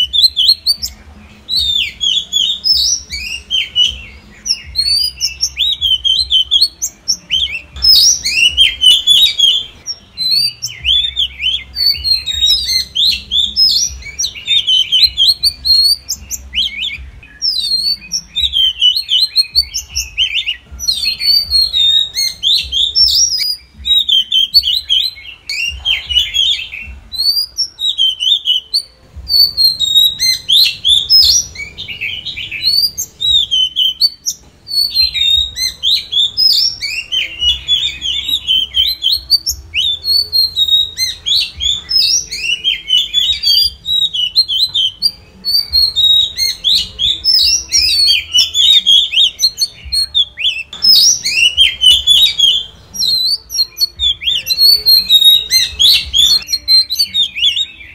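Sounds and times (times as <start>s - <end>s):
bird singing whistled song: 0.0s - 57.9s.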